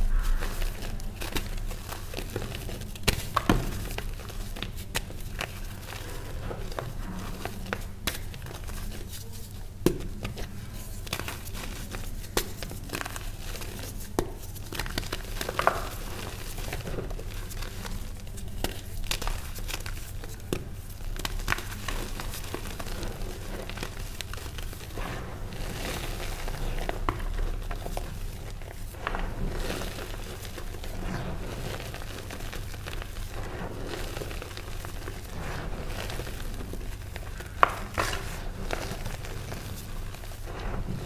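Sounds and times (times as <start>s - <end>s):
chalk crunching by hand: 0.0s - 41.0s.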